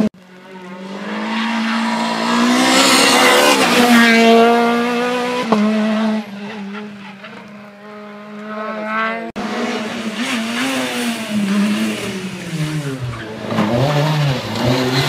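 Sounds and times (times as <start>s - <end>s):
rally car engine passing at speed: 0.3s - 15.0s.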